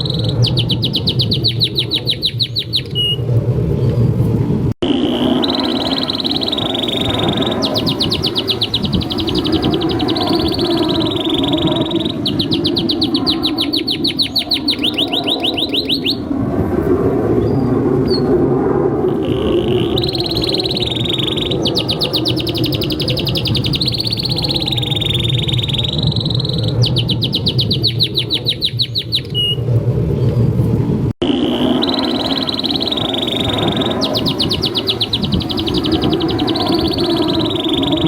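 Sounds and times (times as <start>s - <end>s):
canary singing trills: 0.0s - 3.2s, 4.8s - 16.3s, 19.1s - 29.6s, 31.4s - 38.0s.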